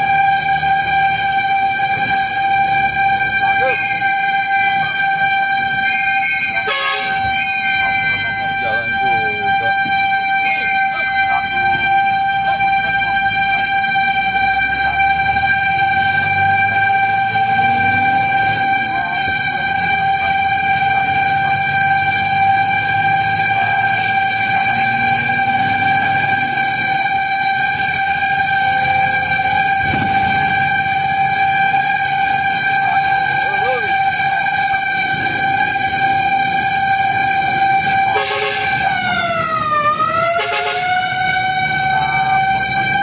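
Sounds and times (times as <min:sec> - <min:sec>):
fire engine siren steady tone: 0:00.0 - 0:43.0
truck engine running: 0:00.0 - 0:43.0.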